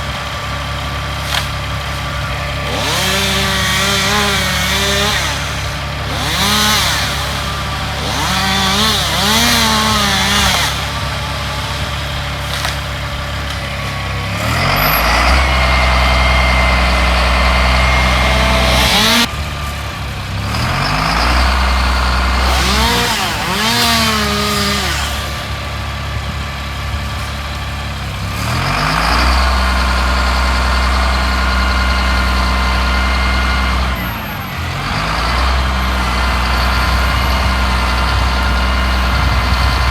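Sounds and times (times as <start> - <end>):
large engine rumbling: 0.0 - 39.9
chainsaws revving: 0.7 - 19.4, 20.4 - 26.0, 28.2 - 39.9.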